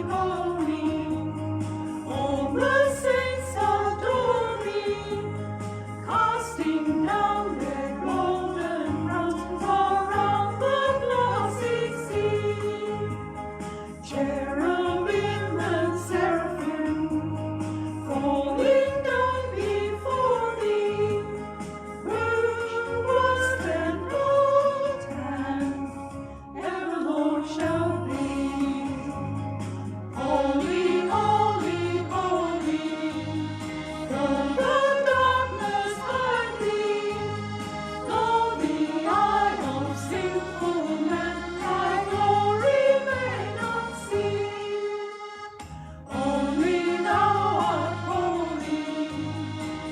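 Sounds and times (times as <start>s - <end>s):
small group singing a hymn: 0.0s - 13.4s, 14.0s - 29.4s, 30.1s - 49.9s.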